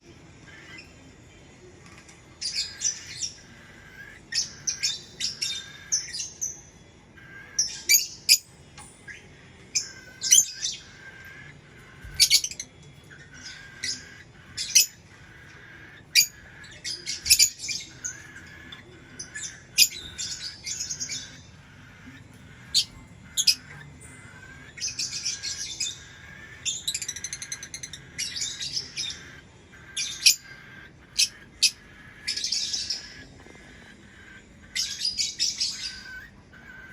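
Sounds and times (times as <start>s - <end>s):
bird chirping and squawking: 0.3s - 1.3s, 2.0s - 36.9s.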